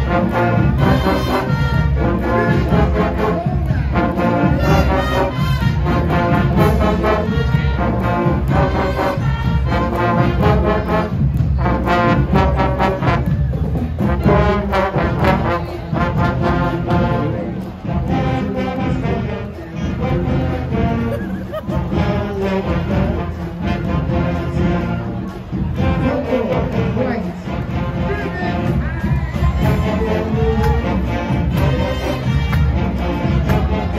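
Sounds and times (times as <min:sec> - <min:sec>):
marching band playing: 0:00.0 - 0:33.9.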